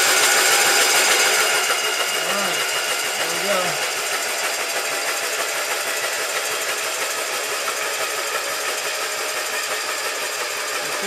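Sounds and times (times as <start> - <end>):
engine cranking without firing: 0.0 - 11.0.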